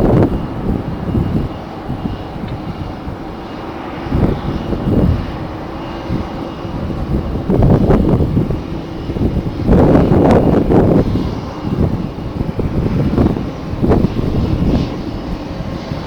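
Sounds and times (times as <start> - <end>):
jet engines running: 0.0 - 16.0
wind buffeting microphone: 0.0 - 16.0.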